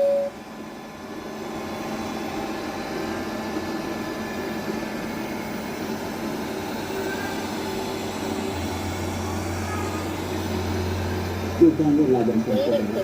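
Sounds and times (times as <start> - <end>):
robot vacuum cleaner whirring: 0.8 - 13.0.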